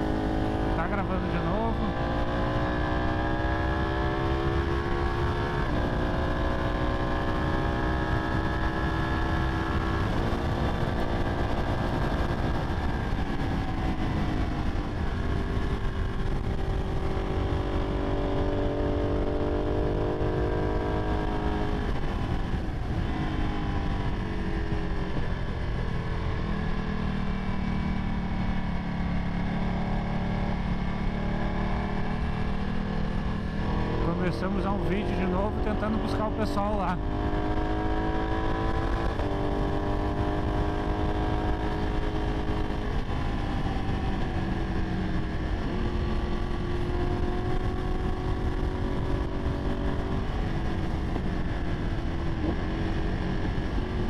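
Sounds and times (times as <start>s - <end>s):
wind rumble on microphone: 1.4s - 54.0s.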